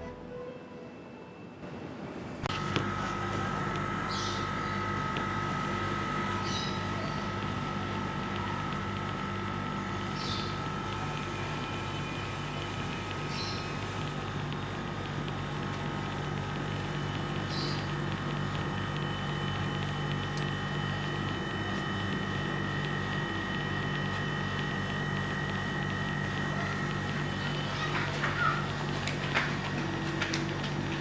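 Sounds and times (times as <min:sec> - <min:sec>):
thin steady whines: 0:00.0 - 0:31.0
machine hum with pulsing throb: 0:02.4 - 0:31.0.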